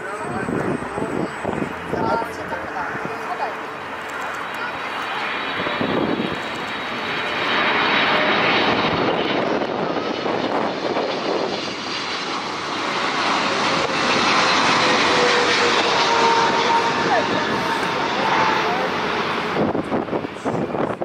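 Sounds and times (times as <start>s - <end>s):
jet airliner flying low: 0.0s - 21.0s.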